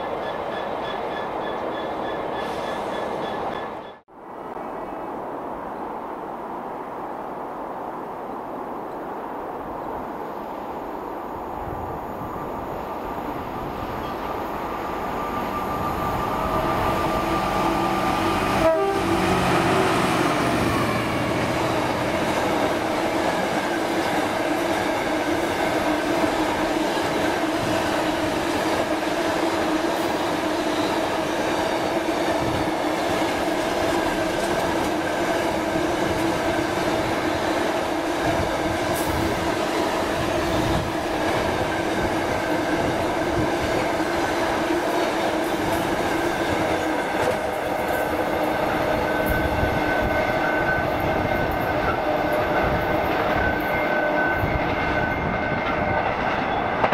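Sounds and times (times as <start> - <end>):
train wheels rumbling on rail: 0.0 - 4.0, 9.8 - 56.9
diesel locomotive engine: 9.9 - 56.9.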